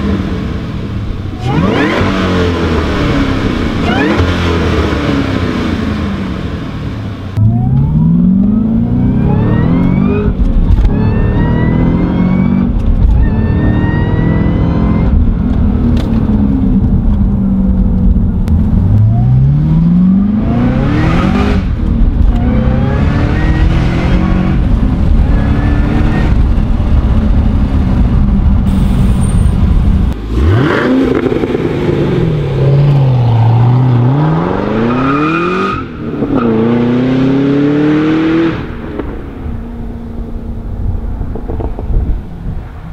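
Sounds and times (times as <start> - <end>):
car engine accelerating: 0.0 - 42.6
car driving off: 0.0 - 42.9.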